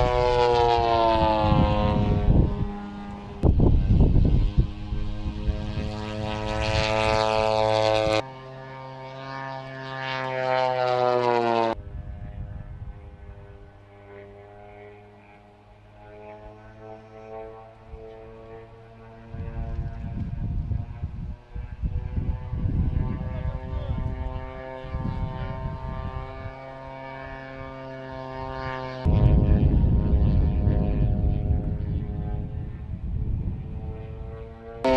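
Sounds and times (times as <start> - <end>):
wind buffeting microphone: 0.0 - 8.2, 11.8 - 14.4, 17.8 - 34.9
model airplane propeller engine: 0.0 - 34.9.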